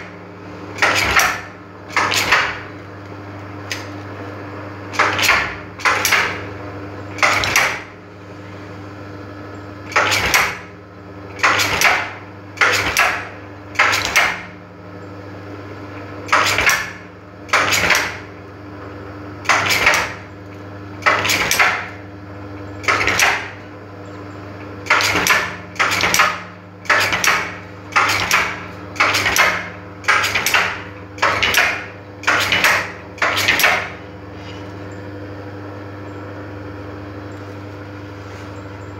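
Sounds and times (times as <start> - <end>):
machine motor hum: 0.0 - 38.9.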